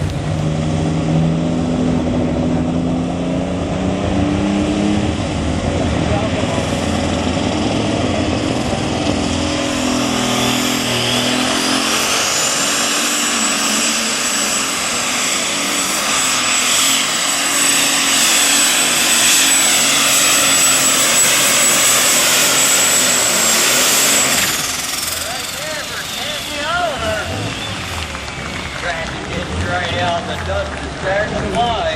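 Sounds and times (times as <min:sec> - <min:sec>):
diesel tractor engine at full power: 0:00.0 - 0:31.9
high turbo whine: 0:00.0 - 0:31.9.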